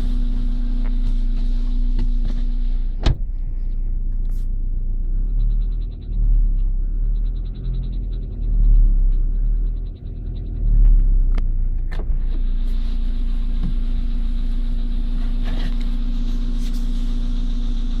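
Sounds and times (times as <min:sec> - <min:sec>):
car engine running with whine: 0:00.0 - 0:18.0.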